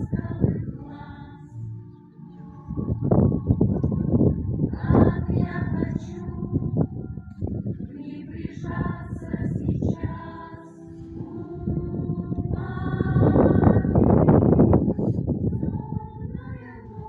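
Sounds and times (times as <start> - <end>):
wind buffeting microphone: 0.0 - 1.3, 2.5 - 17.0.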